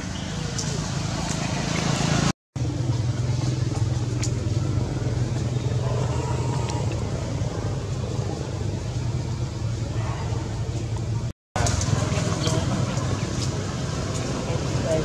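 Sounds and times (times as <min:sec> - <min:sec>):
motor engine running: 0:00.7 - 0:15.0.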